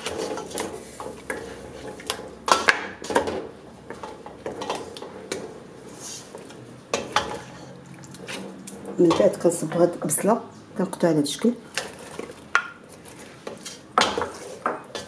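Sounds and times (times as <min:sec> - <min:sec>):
wooden spoon scraping a pot: 0:00.0 - 0:02.4, 0:03.0 - 0:10.3, 0:11.7 - 0:15.0.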